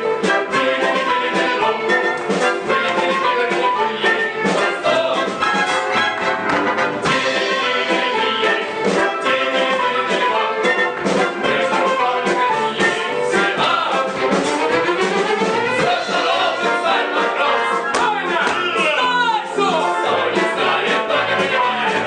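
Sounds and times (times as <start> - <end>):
orchestra with brass: 0.0 - 22.0.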